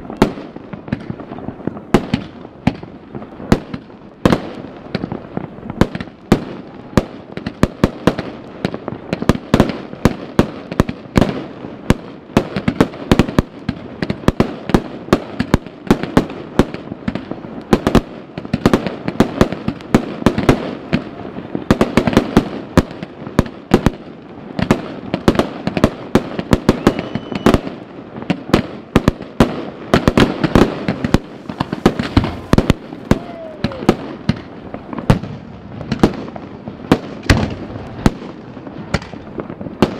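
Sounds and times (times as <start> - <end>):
distant firework bursts and crackle: 0.0 - 39.9
fireworks bangs: 0.0 - 39.9.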